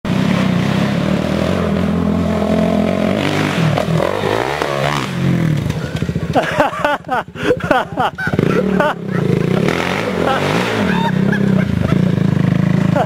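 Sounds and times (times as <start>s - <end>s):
four-wheeler engine revving: 0.1s - 13.0s.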